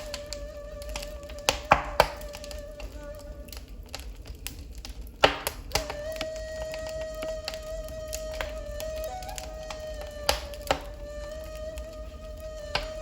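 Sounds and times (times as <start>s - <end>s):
reed flute long note: 0.0s - 4.2s, 5.7s - 13.0s
fire popping: 0.0s - 13.0s
wood fire crackling: 0.0s - 13.0s.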